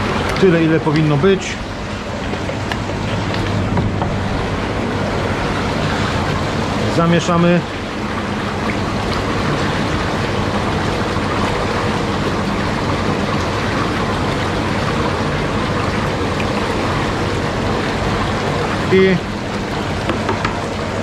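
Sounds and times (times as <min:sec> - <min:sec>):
faint low pump hum: 0:00.0 - 0:21.0
hot tub jets churning water: 0:00.0 - 0:21.0.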